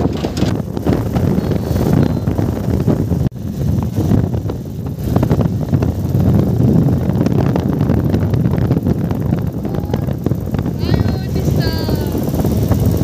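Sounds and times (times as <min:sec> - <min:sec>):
vehicle rumble at speed: 0:00.0 - 0:13.0
wind buffeting microphone: 0:00.0 - 0:13.0.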